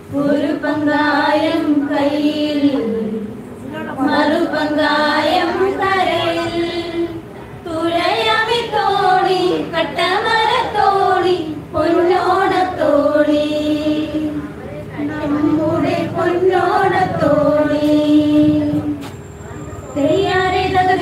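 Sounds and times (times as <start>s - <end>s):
women singing into a microphone: 0.0s - 19.2s, 20.0s - 21.0s.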